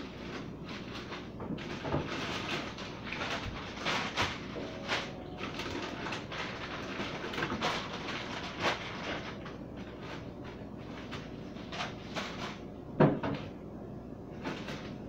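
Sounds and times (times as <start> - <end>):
plastic bags rustling: 0.0 - 13.5, 14.3 - 15.0.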